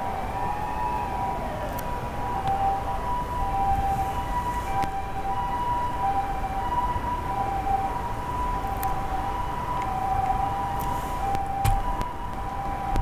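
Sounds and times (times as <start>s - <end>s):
low traffic rumble: 0.0s - 13.0s
two-tone ambulance siren: 0.0s - 13.0s.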